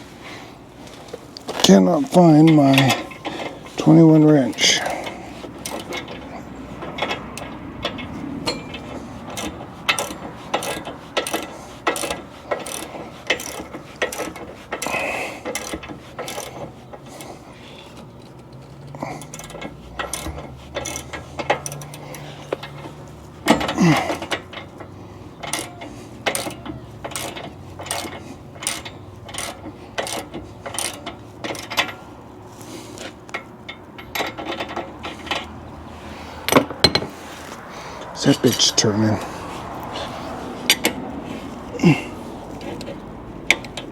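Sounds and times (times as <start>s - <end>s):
ratchet wrench clicking: 1.4s - 37.0s, 41.9s - 43.9s.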